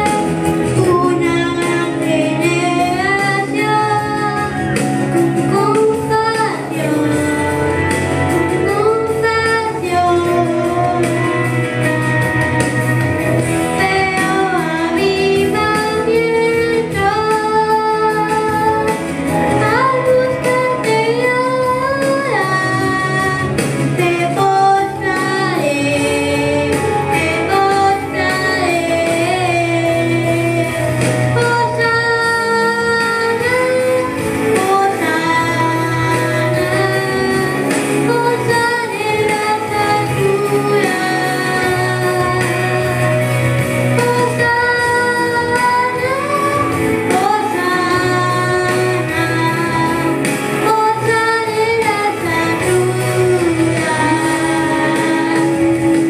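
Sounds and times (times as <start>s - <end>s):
girl singing into a microphone: 0.0s - 56.0s
guitar: 0.0s - 56.0s.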